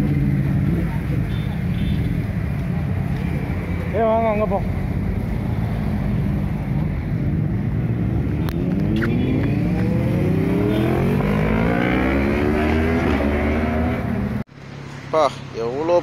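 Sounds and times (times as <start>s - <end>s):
motorcycle engines accelerating: 0.0s - 14.5s.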